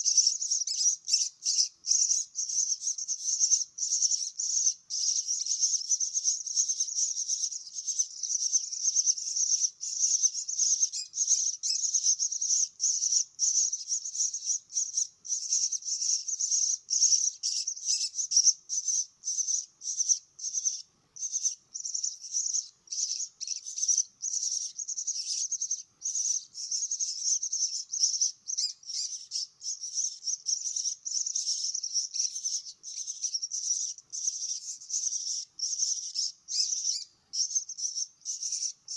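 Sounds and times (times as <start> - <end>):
chicks chirping begging calls: 0.0 - 38.9.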